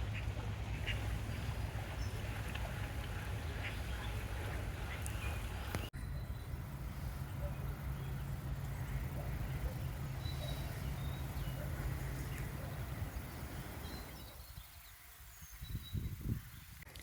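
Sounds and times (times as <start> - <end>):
small birds chirping: 0.0 - 16.9
outdoor rumble and hiss: 0.0 - 17.0.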